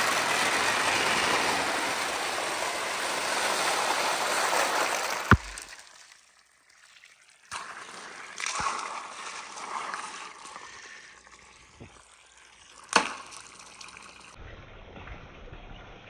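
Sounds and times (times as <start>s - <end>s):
water splashing and trickling: 0.0s - 14.4s.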